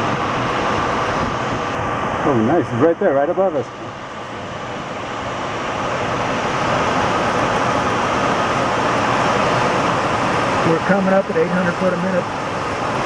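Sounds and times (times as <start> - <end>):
rushing airflow in cockpit: 0.0 - 13.0.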